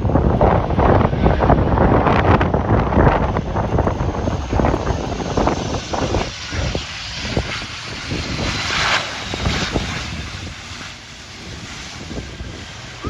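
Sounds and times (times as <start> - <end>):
aircraft engines rushing: 0.0 - 13.0
wind buffeting microphone: 0.0 - 13.0.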